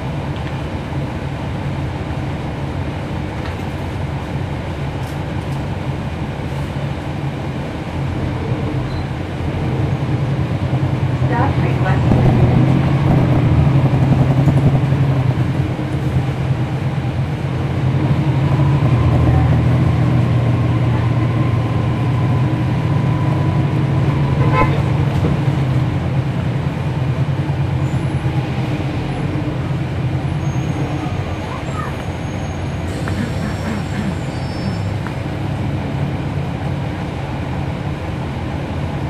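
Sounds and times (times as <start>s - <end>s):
bus diesel engine drone: 0.0s - 39.0s.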